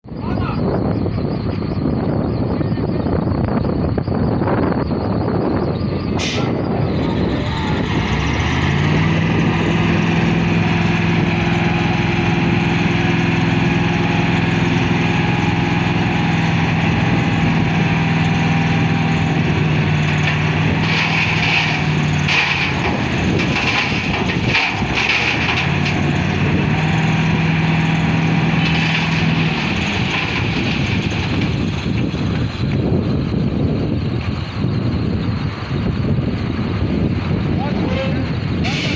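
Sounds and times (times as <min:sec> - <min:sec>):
truck diesel engine running: 0:06.7 - 0:38.9.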